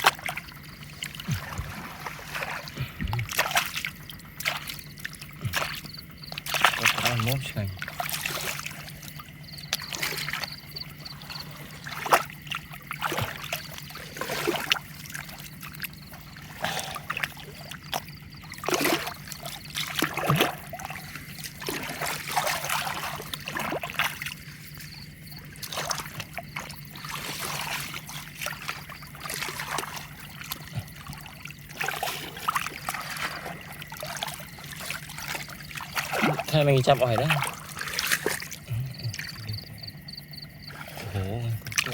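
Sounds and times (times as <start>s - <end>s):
splashes in water: 0.0s - 41.9s
water trickling and sloshing: 0.0s - 41.9s.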